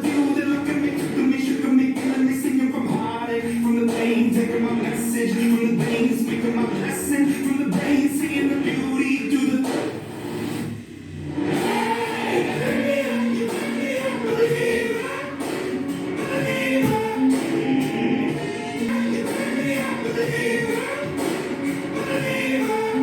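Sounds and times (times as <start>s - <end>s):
song with singing voice: 0.0s - 23.0s.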